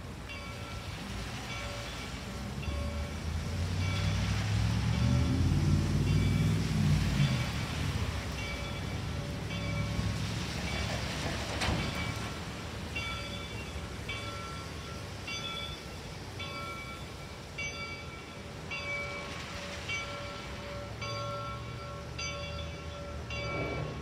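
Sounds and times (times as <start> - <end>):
crossing bell ringing: 0.0 - 24.0
steam locomotive rumble: 0.0 - 24.0.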